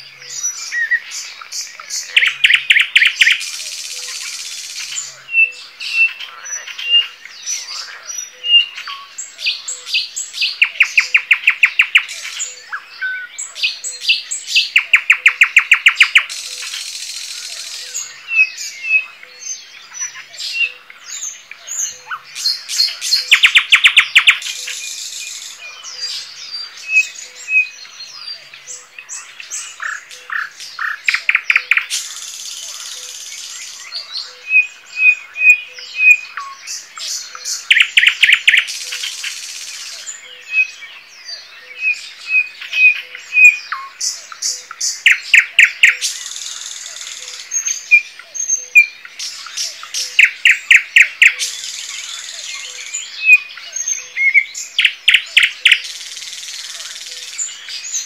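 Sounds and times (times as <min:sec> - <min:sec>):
songbird trills: 0:00.0 - 0:58.0.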